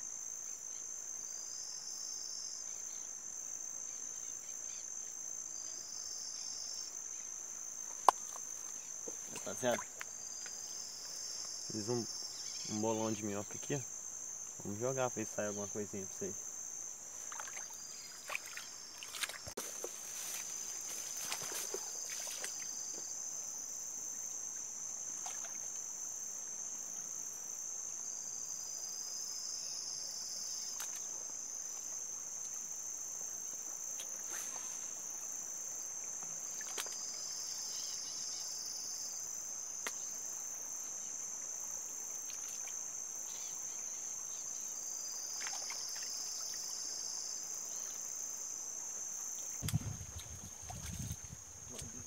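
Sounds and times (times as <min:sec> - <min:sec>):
insect chirring: 0:00.0 - 0:52.0.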